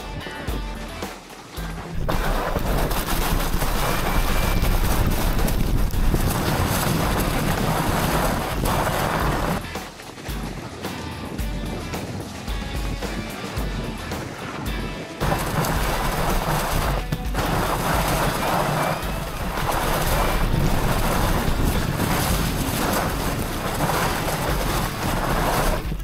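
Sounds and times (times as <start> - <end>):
background music: 0.0 - 26.0
bike tyres on snow: 0.0 - 26.0
wind on microphone: 1.8 - 26.0.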